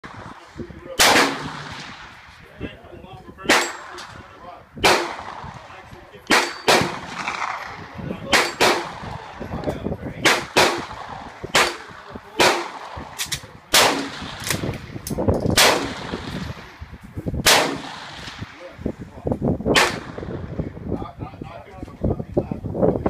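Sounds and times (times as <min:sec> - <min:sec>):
rifle gunshots with echo: 0:00.0 - 0:02.8, 0:03.4 - 0:18.8, 0:19.7 - 0:20.7.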